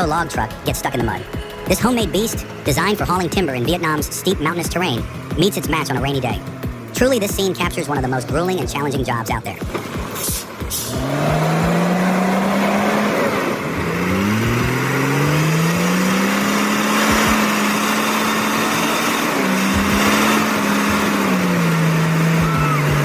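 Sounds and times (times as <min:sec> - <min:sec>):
truck engine revving hard: 0:00.0 - 0:23.0.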